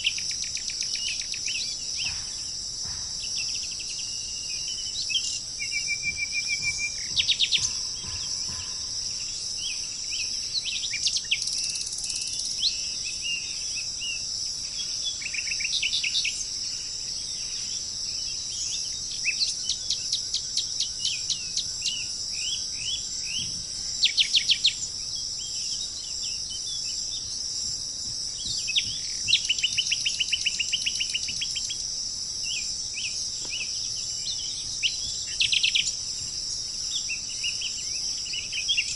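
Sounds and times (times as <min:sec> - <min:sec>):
insects droning: 0:00.0 - 0:38.9
songbirds chirping and trilling: 0:00.0 - 0:38.9.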